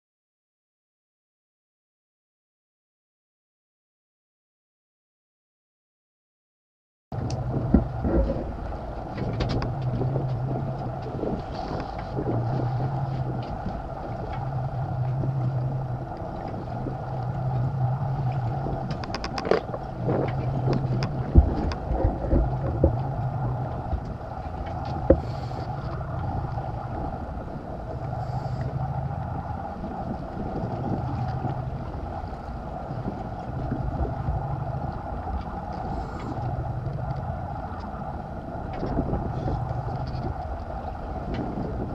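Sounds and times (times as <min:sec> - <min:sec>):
boat engine running: 0:07.1 - 0:41.9
low hum: 0:07.1 - 0:41.9
water: 0:07.1 - 0:41.9
wind: 0:07.1 - 0:41.9.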